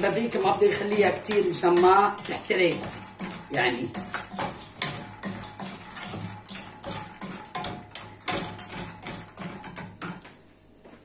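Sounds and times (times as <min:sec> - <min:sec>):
wooden spoon scraping metal pot: 0:00.0 - 0:10.2.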